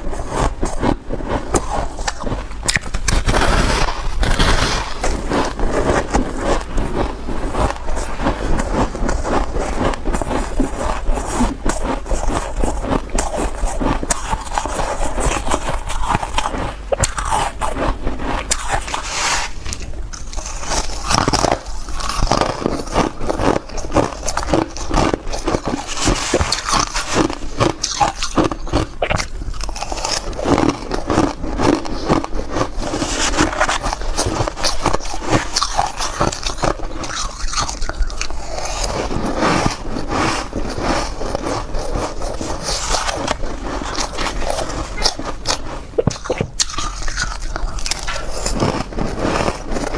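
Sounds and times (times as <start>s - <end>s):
teeth crunching ice: 0.0s - 49.9s.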